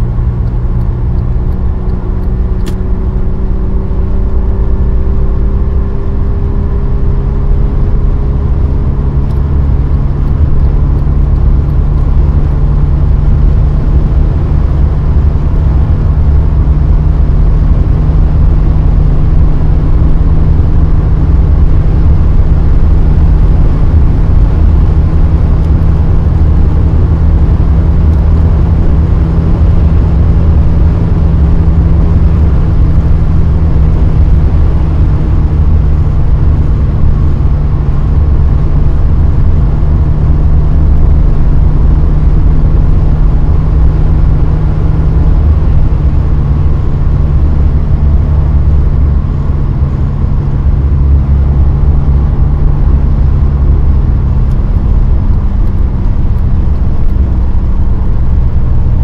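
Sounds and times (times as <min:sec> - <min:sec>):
car engine running inside cabin: 0:00.0 - 0:59.0.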